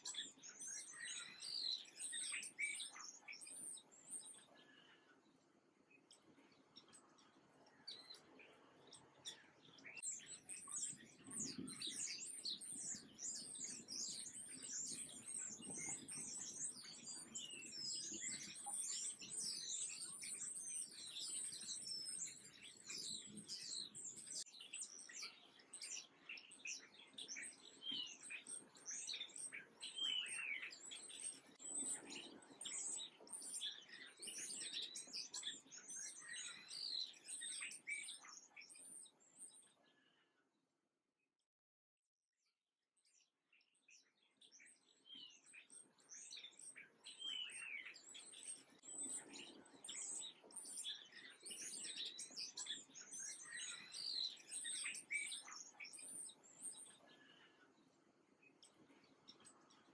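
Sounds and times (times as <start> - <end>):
small songbirds chirping: 0.0 - 40.5, 43.0 - 59.9.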